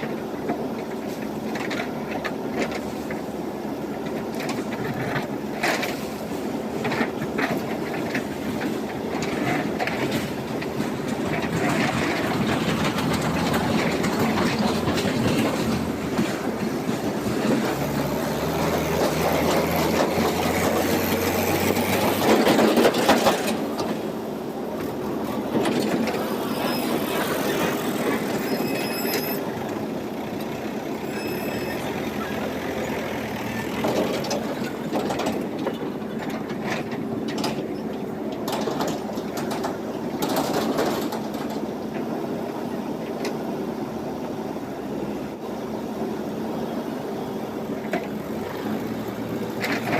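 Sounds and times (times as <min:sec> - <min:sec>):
diesel engine under load: 0:00.0 - 0:49.9.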